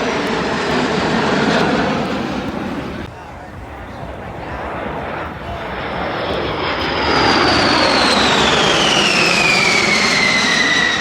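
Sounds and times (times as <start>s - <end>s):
jet aircraft passing overhead: 0.0s - 11.0s.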